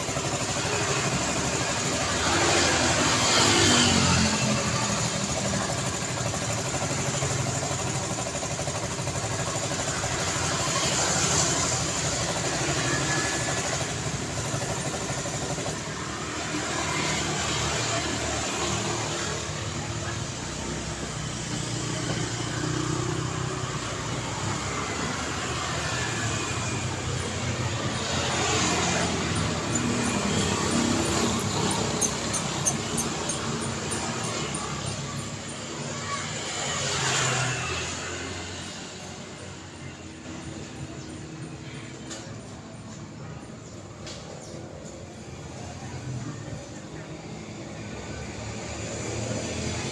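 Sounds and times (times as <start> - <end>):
road traffic: 0.0 - 49.9.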